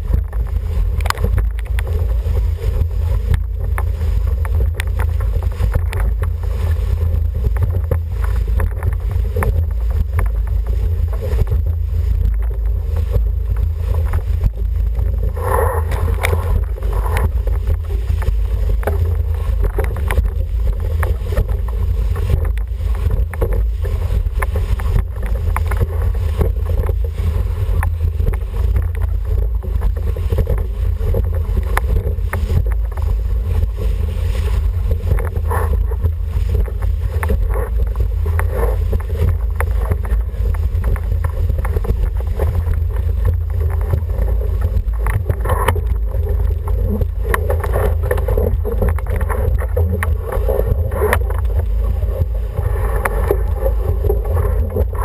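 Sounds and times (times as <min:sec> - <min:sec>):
water rushing along hull: 0:00.0 - 0:55.0
water splashes: 0:00.0 - 0:55.0
wind buffeting microphone: 0:00.0 - 0:55.0.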